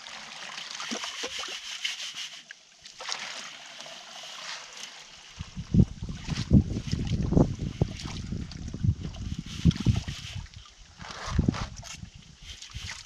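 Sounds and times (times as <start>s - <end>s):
water splashing and running: 0.0s - 13.0s.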